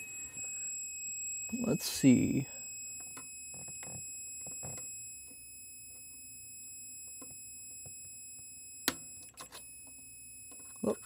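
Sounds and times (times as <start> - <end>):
multimeter continuity beep: 0.0 - 11.0.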